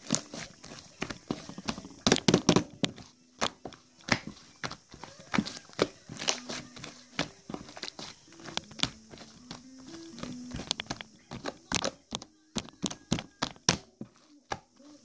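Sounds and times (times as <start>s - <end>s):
sharp taps and clicks: 1.0s - 13.9s.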